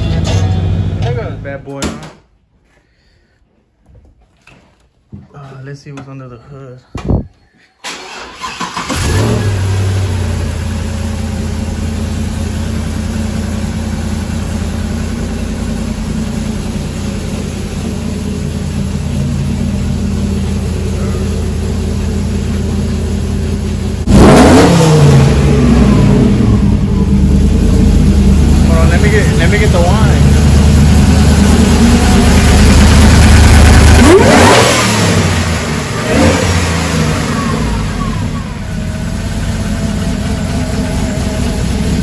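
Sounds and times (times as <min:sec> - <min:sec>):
vehicle engine idling and revving: 0:00.0 - 0:01.5, 0:08.4 - 0:42.0.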